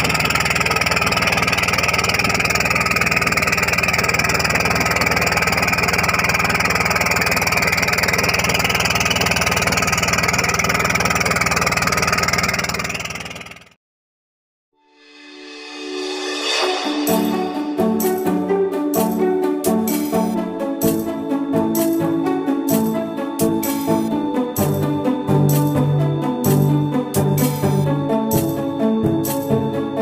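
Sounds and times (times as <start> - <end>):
boat engine running: 0.0 - 13.8, 17.0 - 30.0.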